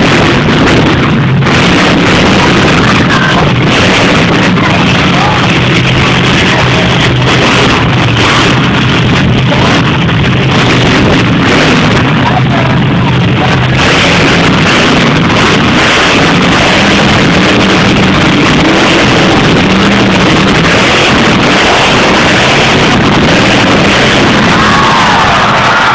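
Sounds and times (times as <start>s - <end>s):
loud truck engines droning: 0.0s - 25.9s.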